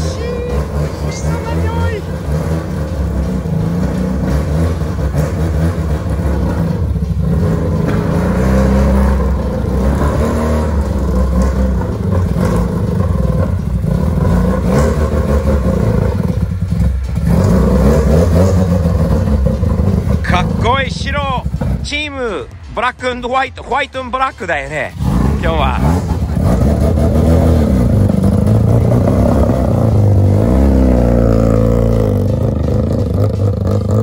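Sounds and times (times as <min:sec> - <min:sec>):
rotary engine running at low revs: 0:00.0 - 0:22.7, 0:24.9 - 0:34.0.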